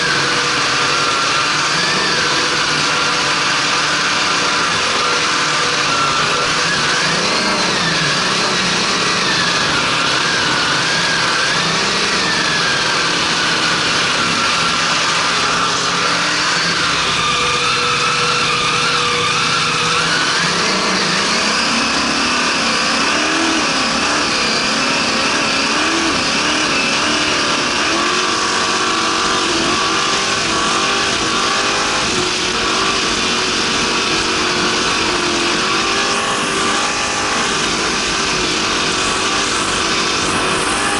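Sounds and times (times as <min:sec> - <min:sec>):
power boat engine running hard: 0:00.0 - 0:40.9.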